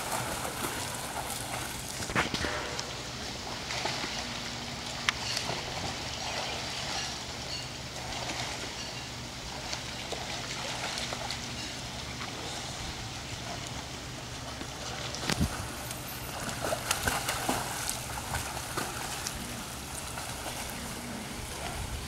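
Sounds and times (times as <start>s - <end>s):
low steady hum: 0.0s - 22.0s
pool water splashing: 0.0s - 22.0s.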